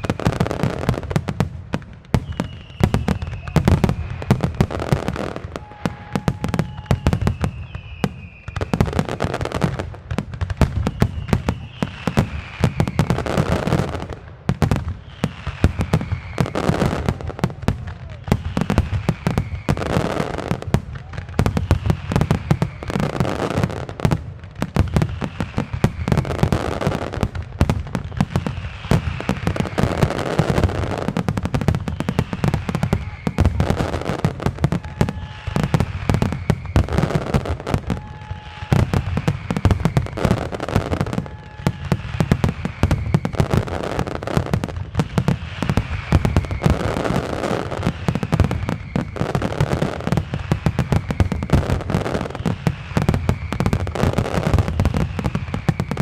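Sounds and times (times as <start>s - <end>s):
firework bangs: 0.0s - 56.0s.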